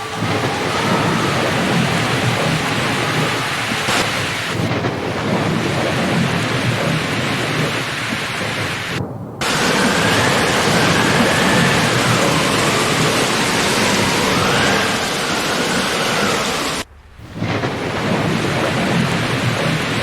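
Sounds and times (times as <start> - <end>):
steady rain falling: 0.0 - 20.0
thunder rumbling: 0.0 - 20.0.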